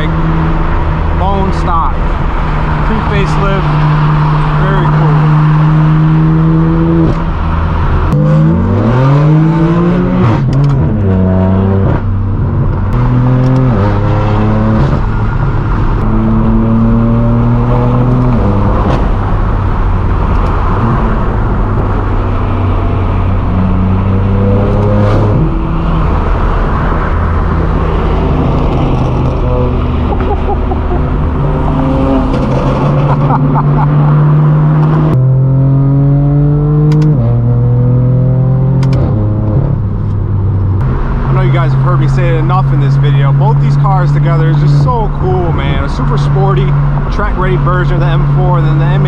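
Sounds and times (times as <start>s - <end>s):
car engine revving loudly: 0.0s - 49.0s.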